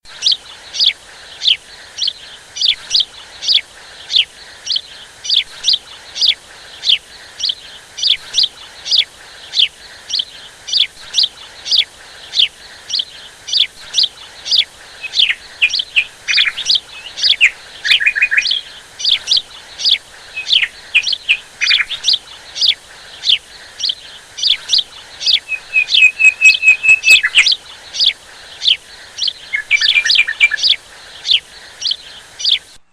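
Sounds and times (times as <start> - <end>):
songbirds chirping: 0.0 - 32.9.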